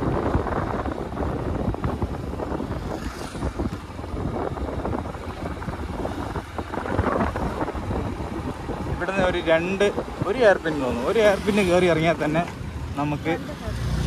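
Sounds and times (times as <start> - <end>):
wind buffeting microphone: 0.0 - 13.0
motorbike running and road noise: 0.0 - 14.0.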